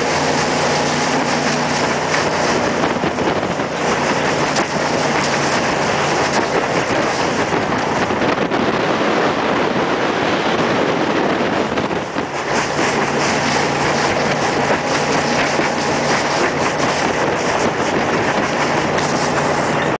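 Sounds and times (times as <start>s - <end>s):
boat engine droning: 0.0s - 20.0s
water rushing past hull: 0.0s - 20.0s.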